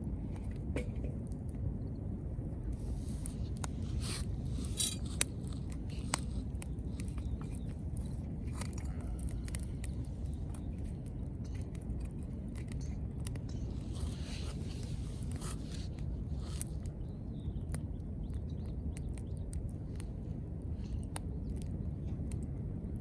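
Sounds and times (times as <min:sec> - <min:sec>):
wood fire crackling: 0:02.6 - 0:22.6.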